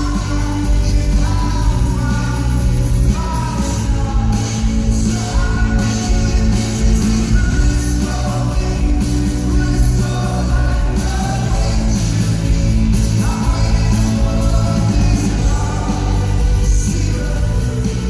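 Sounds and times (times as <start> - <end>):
man singing lead vocal: 0.0 - 18.0
rock band playing live: 0.0 - 18.0.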